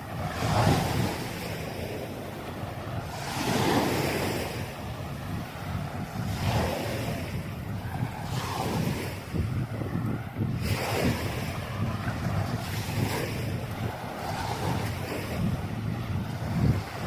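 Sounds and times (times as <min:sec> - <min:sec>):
sea waves washing onto beach: 0:00.0 - 0:17.0
wind rumbling on microphone: 0:00.0 - 0:17.0.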